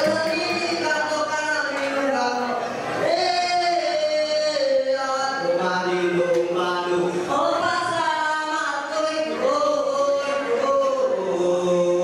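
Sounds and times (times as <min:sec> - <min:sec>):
person singing unaccompanied chant: 0:00.0 - 0:12.0.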